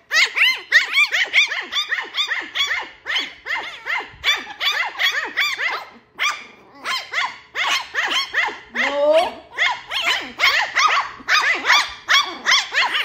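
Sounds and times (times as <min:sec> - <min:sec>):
puppies yapping: 0:00.0 - 0:13.0.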